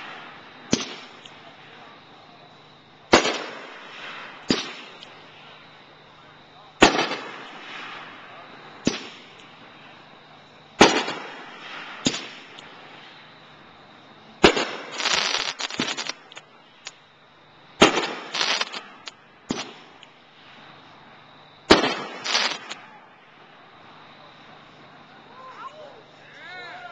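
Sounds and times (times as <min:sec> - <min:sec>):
fireworks bangs and crackling: 0:00.0 - 0:17.0, 0:17.8 - 0:25.3.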